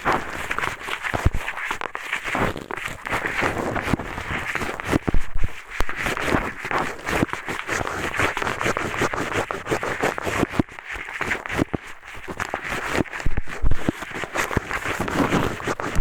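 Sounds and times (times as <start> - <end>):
eyeglasses scratching a microphone: 0.0 - 16.0
small irregular clicks: 0.0 - 16.0.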